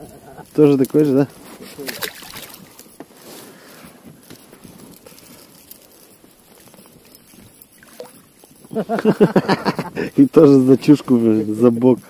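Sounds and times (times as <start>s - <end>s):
fishing tackle clicking and rustling: 0.0s - 12.0s.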